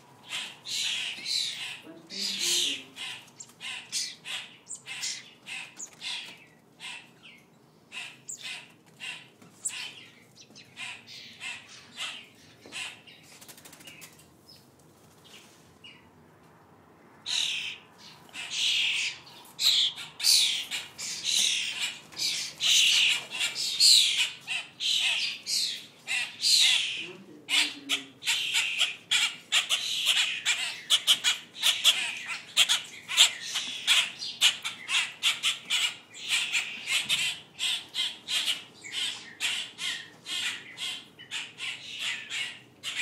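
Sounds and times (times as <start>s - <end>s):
songbirds chirping and squawking: 0.0s - 43.0s.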